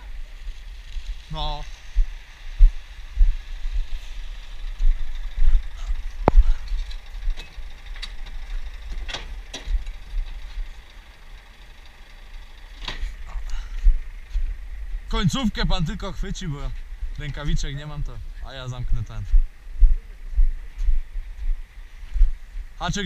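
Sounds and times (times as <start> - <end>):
uneven low rumble: 0.0 - 10.9, 13.0 - 23.0.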